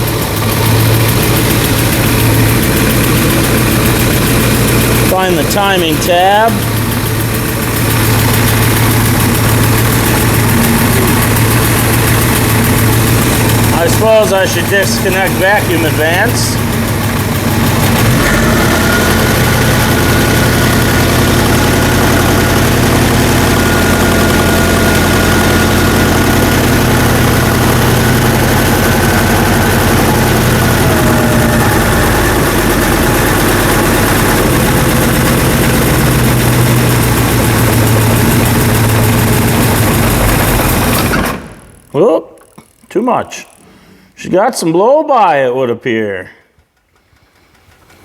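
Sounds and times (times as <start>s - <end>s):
car engine idling: 0.0s - 41.9s, 46.5s - 48.0s.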